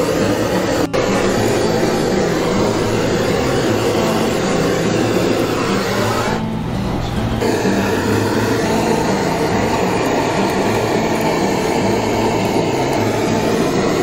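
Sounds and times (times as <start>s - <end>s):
gas torch flame burning: 0.0s - 6.5s, 7.3s - 14.0s.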